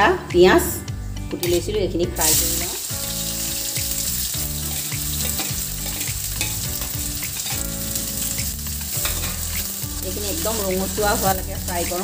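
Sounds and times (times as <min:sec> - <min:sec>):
onions sizzling in hot oil: 0:01.5 - 0:12.0.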